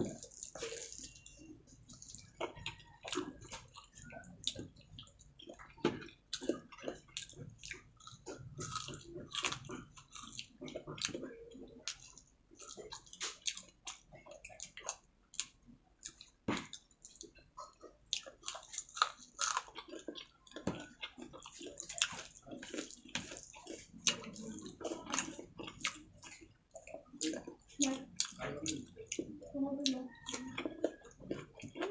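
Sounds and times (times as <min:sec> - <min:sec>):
person chewing food: 0:00.0 - 0:31.9.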